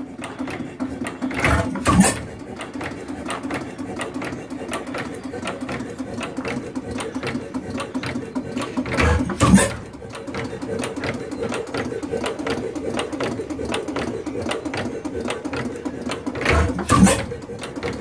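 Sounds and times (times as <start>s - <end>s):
gas engine running: 0.0s - 18.0s.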